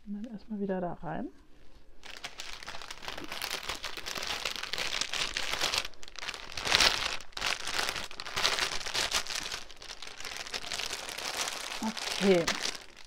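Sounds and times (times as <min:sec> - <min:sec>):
packaging crinkling and rustling: 0:02.0 - 0:13.0.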